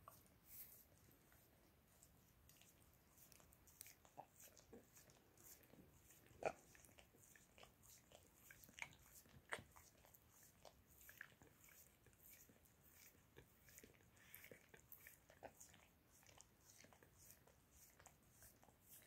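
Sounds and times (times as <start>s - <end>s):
dog licking wetly: 1.3s - 19.0s.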